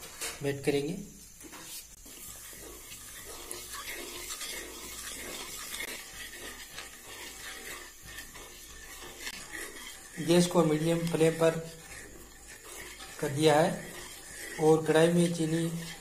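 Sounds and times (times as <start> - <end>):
spatula scraping sugar in metal pan: 0.0 - 16.0.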